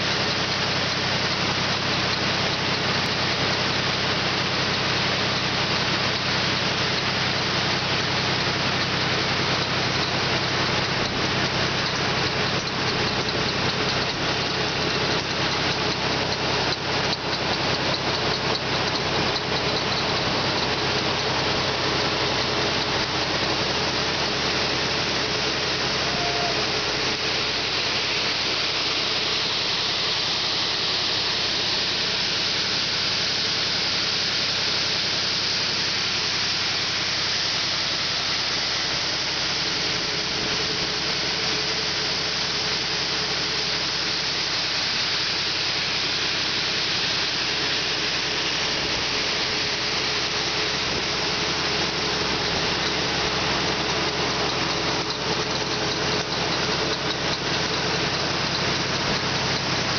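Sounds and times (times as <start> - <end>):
conveyor machine drone: 0.0 - 59.9.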